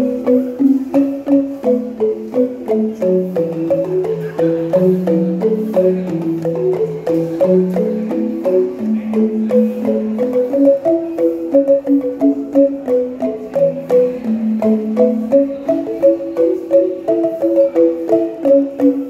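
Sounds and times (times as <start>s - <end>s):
shaken bamboo tubes melody: 0.0s - 19.0s.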